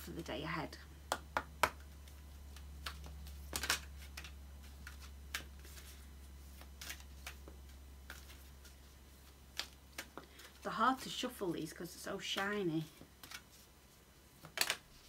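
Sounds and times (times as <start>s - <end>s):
steady low hum: 0.0s - 15.0s
cards being shuffled: 1.4s - 11.1s, 12.2s - 15.0s.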